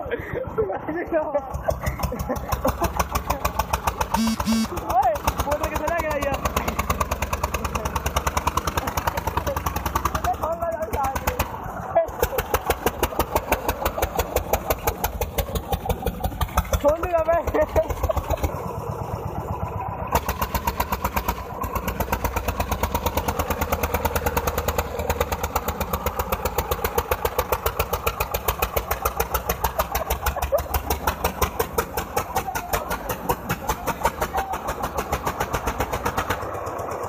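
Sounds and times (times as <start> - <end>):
tractor diesel engine thumping: 1.4 - 37.0.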